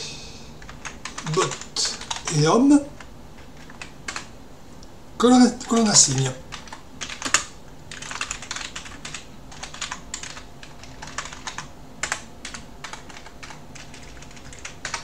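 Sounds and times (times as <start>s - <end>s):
typing on computer keyboard: 0.6s - 2.4s, 3.0s - 4.3s, 5.6s - 15.0s.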